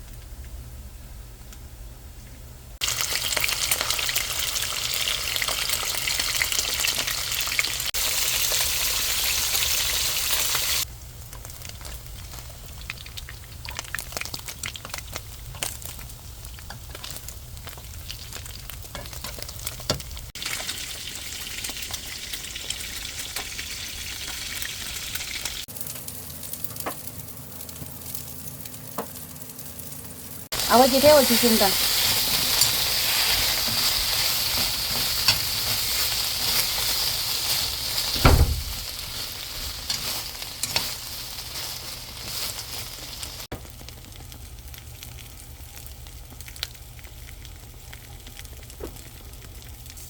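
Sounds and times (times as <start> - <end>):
eel sizzling on a grill: 2.8 - 50.0.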